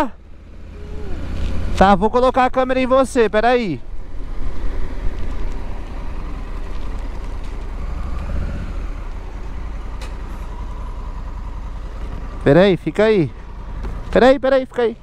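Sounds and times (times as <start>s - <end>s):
motorcycle engine at low revs: 0.0s - 15.0s
wind and road noise: 0.0s - 15.0s.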